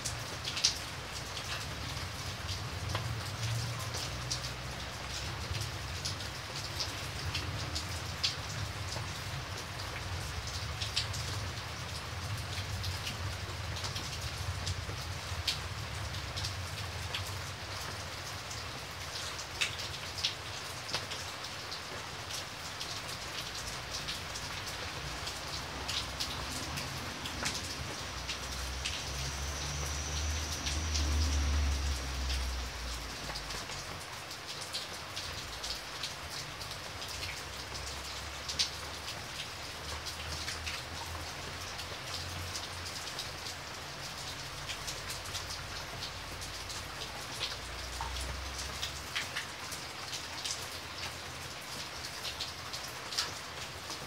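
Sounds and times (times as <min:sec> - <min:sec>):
rain falling on paving: 0:00.0 - 0:54.0.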